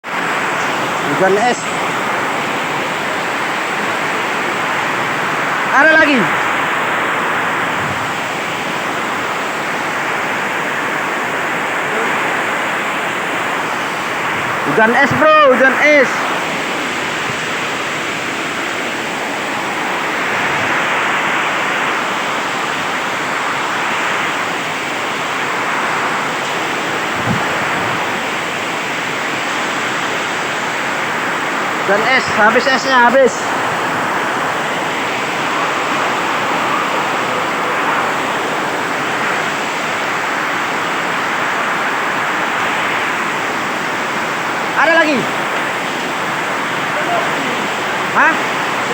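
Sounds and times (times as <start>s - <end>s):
heavy rain with hail: 0.0s - 48.9s.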